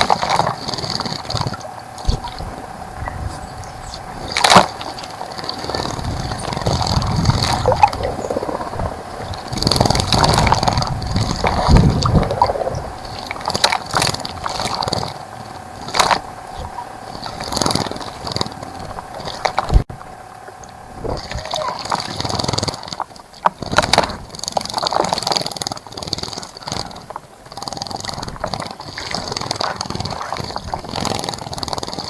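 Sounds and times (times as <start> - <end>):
birds splashing in water: 0.0 - 32.0.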